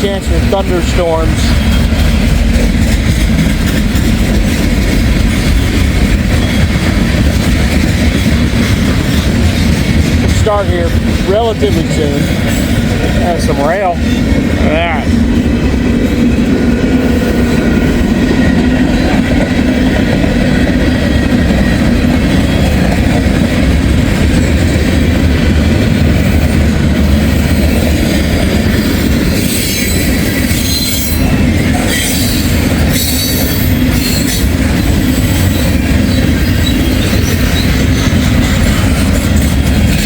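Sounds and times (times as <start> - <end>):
wheels squealing on rails: 0.0 - 15.2, 16.0 - 40.0
freight train rumbling: 0.0 - 40.0.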